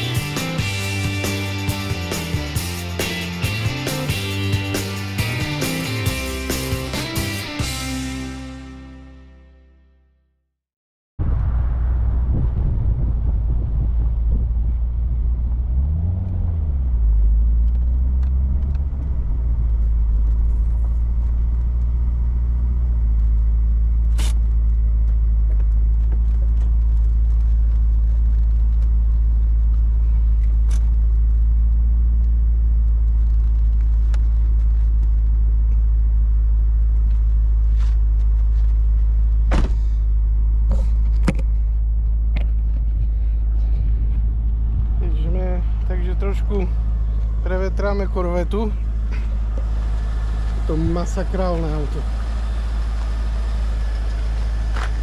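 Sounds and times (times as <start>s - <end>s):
car engine drone: 0.0s - 9.5s, 11.2s - 55.0s.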